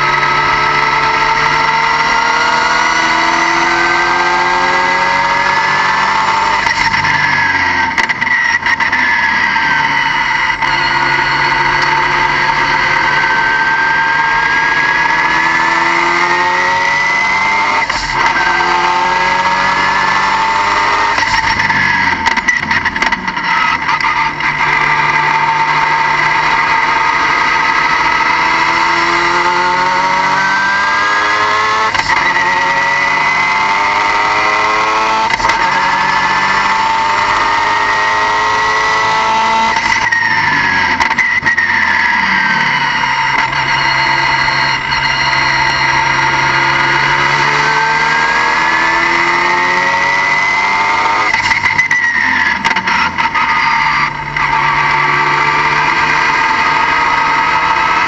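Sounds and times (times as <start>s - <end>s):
car engine accelerating: 0.0s - 58.0s
high-pitched whine: 0.0s - 58.0s.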